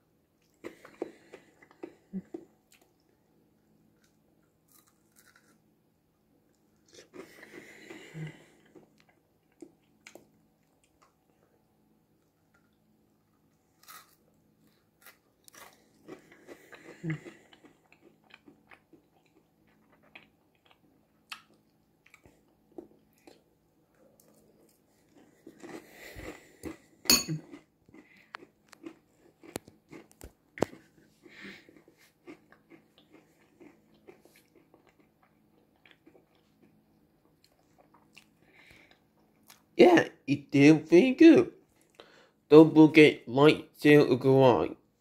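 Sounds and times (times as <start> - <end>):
person chewing and crunching: 0.4 - 3.1, 3.9 - 5.7, 6.5 - 11.5, 12.2 - 39.8.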